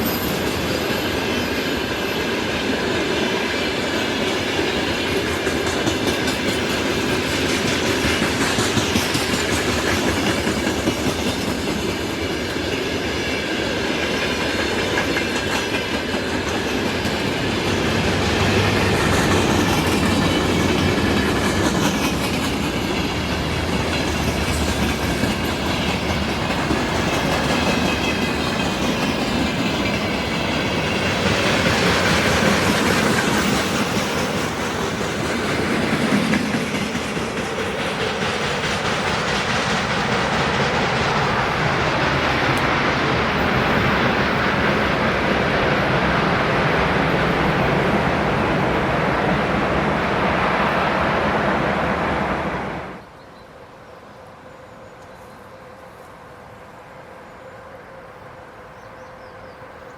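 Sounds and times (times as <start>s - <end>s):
train cars clacking over rails: 0.0s - 52.8s.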